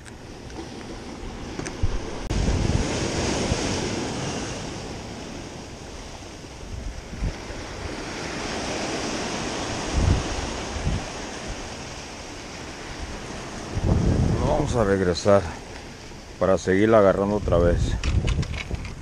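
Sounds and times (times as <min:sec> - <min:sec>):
ocean surf breaking on rocks: 0:00.0 - 0:19.0
wind buffeting microphone: 0:00.0 - 0:19.0.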